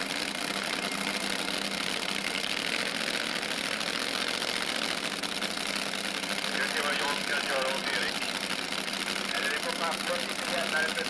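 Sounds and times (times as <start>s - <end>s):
drag motorcycles idling: 0.0s - 11.0s.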